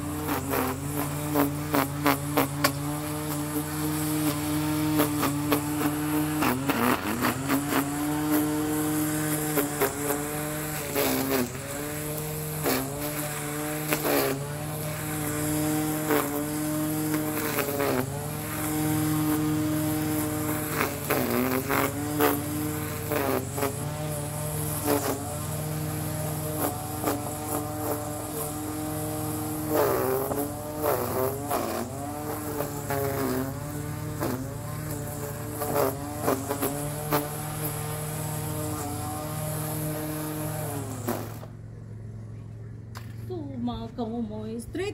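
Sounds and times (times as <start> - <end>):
electric string trimmer whine: 0.0 - 44.9.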